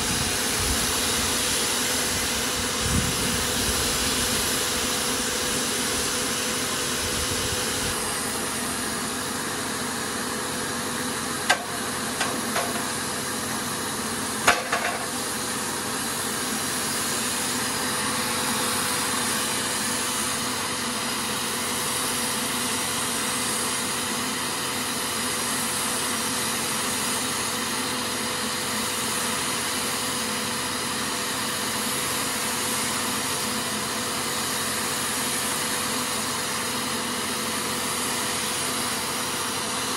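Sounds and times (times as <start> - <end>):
paint sprayer hissing and humming: 0.0 - 39.9.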